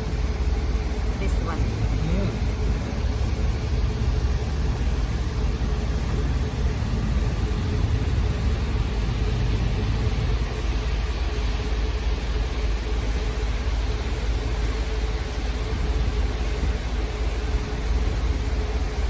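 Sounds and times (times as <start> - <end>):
faint steady hum: 0.0 - 19.0
vehicle engine rumbling: 0.0 - 19.0.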